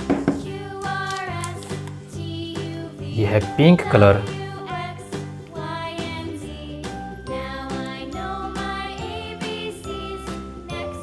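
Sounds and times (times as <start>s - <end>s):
bright children's music: 0.0s - 11.0s.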